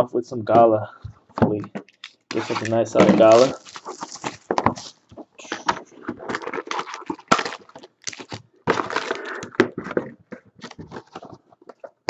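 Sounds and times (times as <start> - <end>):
plastic shrink-wrap crinkling: 1.8 - 11.9.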